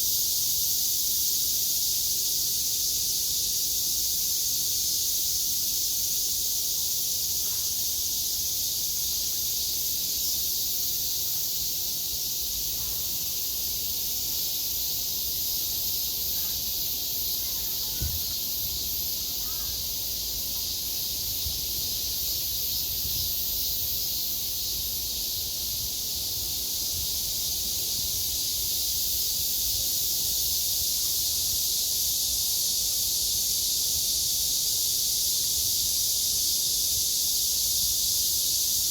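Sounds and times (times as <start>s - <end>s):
cicadas singing: 0.0s - 38.9s.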